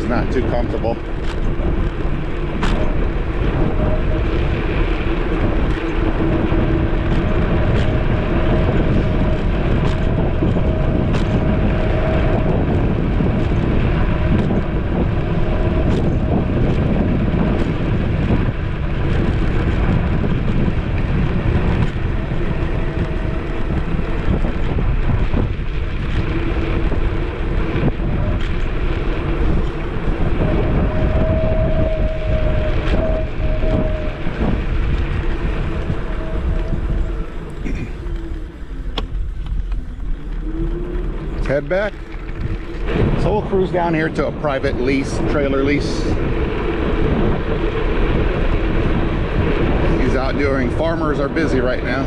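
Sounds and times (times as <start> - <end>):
road noise: 0.0 - 52.0
wind rushing over microphone: 0.0 - 52.0.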